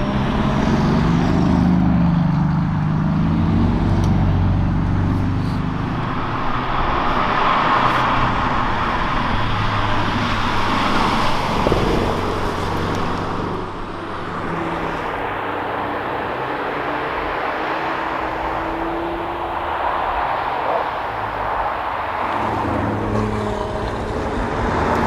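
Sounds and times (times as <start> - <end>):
tyre and road noise: 0.0 - 25.0.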